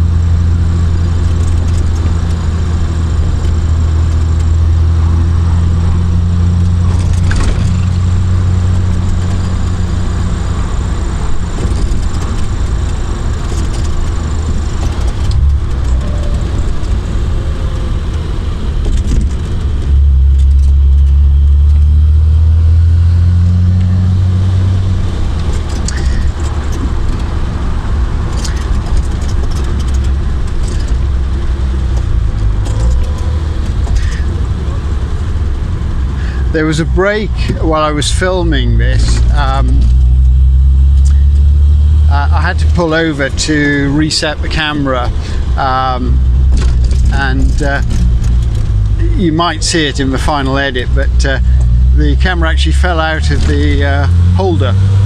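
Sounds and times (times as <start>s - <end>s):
car engine driving: 0.0s - 55.0s.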